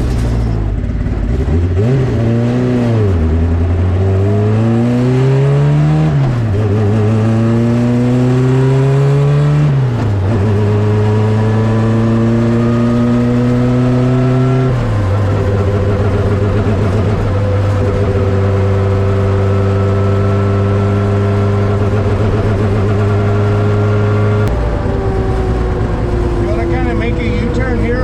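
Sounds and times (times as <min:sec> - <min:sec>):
turbocharged car engine accelerating: 0:00.0 - 0:28.0.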